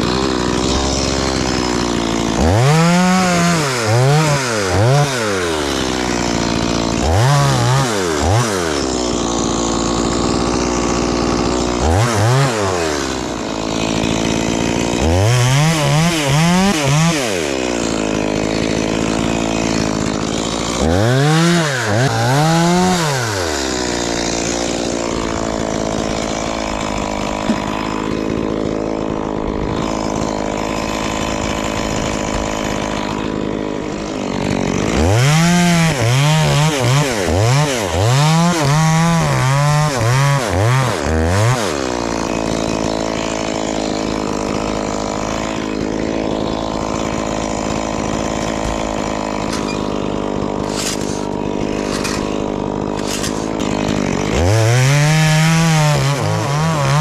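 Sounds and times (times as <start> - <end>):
chainsaw idling and revving: 0.0 - 57.0.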